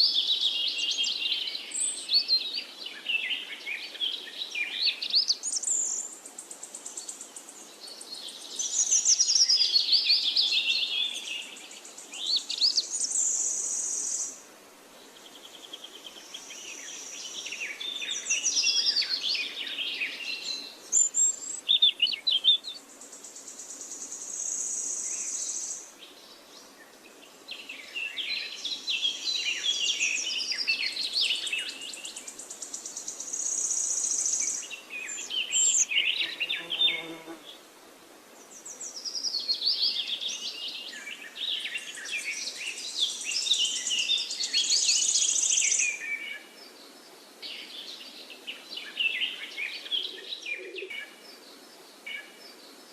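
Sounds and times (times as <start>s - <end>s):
songbirds singing and chirping: 0.0s - 52.9s.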